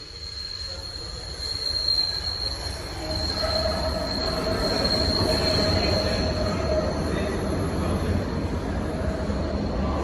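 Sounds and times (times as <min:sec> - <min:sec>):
train rumble: 0:00.0 - 0:10.0
train wheels squealing on rails: 0:00.0 - 0:10.0.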